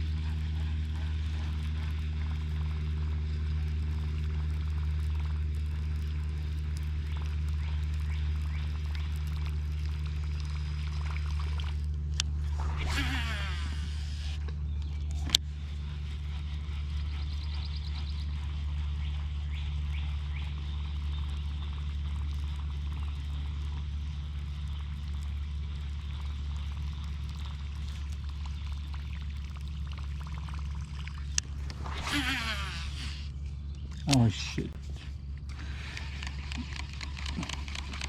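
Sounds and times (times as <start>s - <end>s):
trolling motor electric hum: 0.0s - 38.0s.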